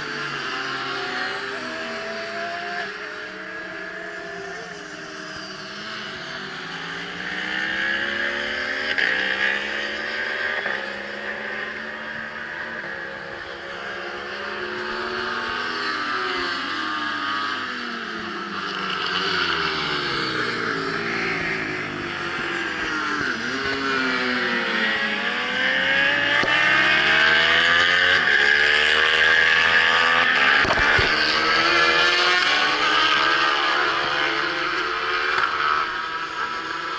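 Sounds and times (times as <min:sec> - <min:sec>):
racing motorcycle engines revving: 0:00.0 - 0:36.9.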